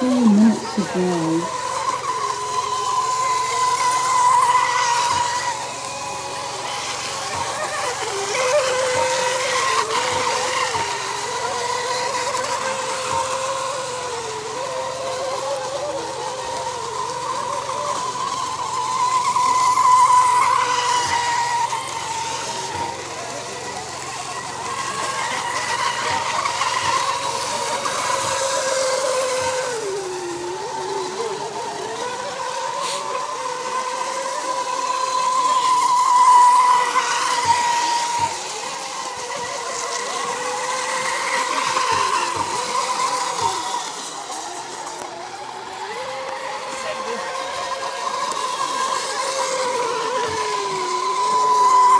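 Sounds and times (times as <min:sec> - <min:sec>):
hulls skimming water: 0:00.0 - 0:51.9
model boat motors whining: 0:00.0 - 0:51.9.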